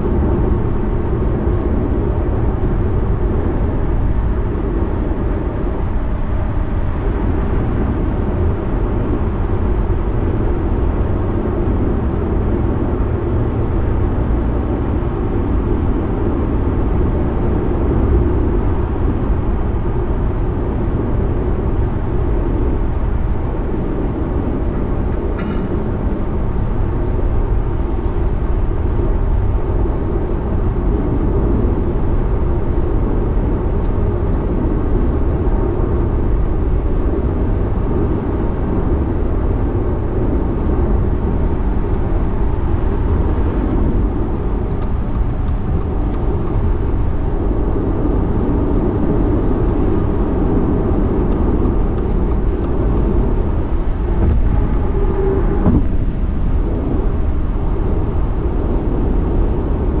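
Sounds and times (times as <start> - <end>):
car road noise from inside: 0.0 - 60.0.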